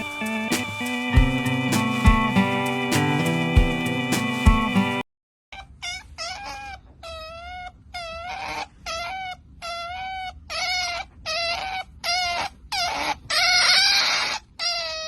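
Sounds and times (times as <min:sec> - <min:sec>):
animal giving high-pitched calls: 0:00.0 - 0:05.0, 0:05.6 - 0:15.0.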